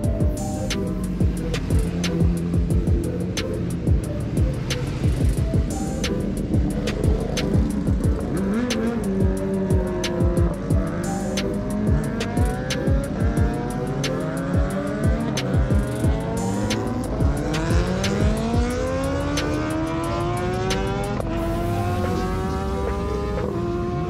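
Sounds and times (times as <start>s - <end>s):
hip hop beat: 0.0s - 24.0s
motorcycles accelerating: 0.0s - 24.0s.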